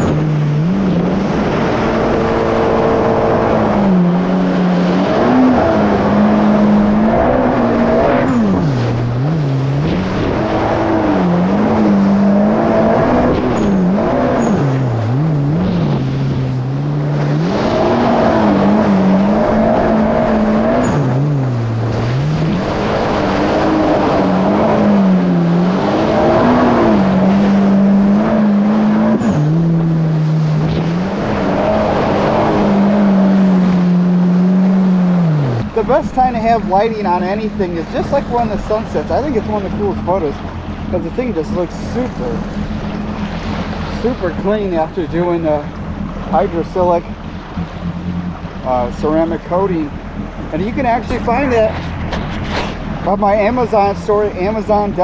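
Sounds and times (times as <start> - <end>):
jet ski engine revving: 0.0 - 55.0
rush of water and wind: 0.0 - 55.0.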